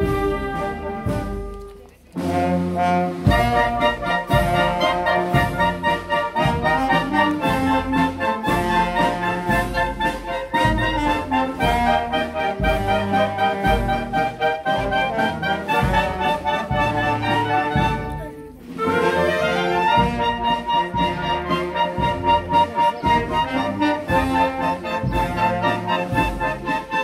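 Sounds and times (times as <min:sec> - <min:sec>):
marching wind band playing: 0:00.0 - 0:27.0
steady low drum beat: 0:00.0 - 0:27.0.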